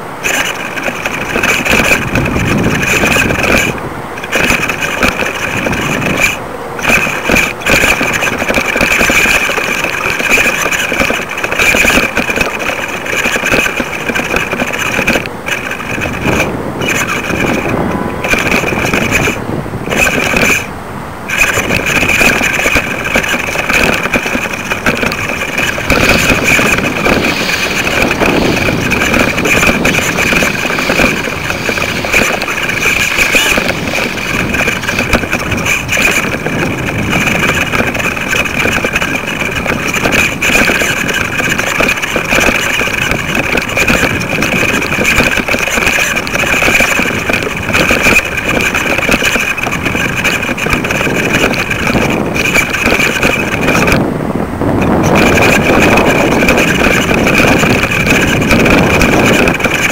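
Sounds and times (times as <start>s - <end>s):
high whine: 0.0s - 59.9s
wind rushing over microphone: 0.0s - 59.9s.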